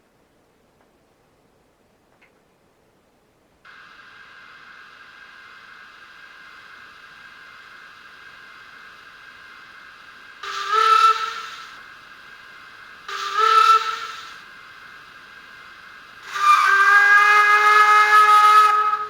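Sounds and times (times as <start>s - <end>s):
steady steam hiss: 3.6s - 19.0s
steam whistle: 3.7s - 19.0s.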